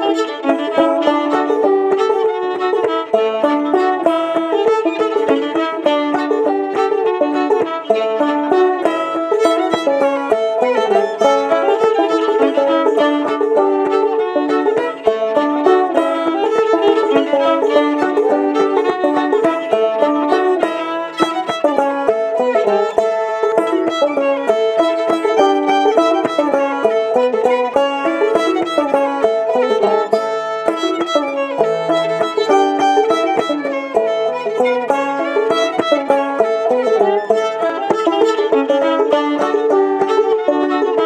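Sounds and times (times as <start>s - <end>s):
clawhammer banjo picking: 0.0s - 41.0s
fiddle bowed melody: 0.0s - 41.0s.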